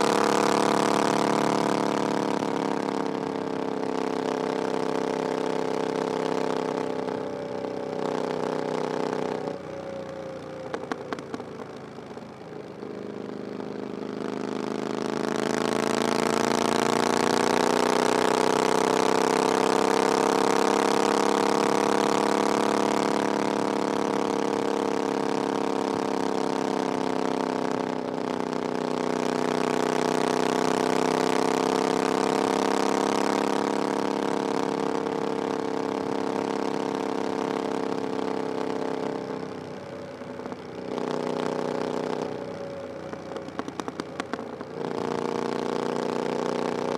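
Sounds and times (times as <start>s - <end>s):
motorcycle engine exhaust: 0.0s - 46.9s.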